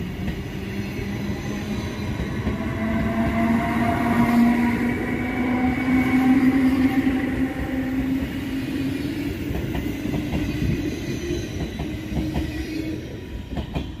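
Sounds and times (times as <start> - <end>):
electric train hum: 0.0 - 14.0.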